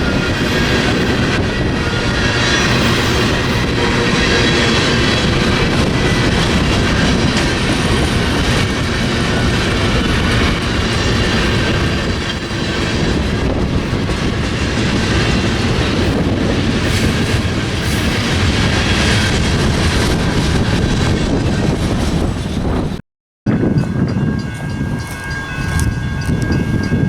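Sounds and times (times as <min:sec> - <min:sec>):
freight train wheels clattering: 0:00.0 - 0:22.9.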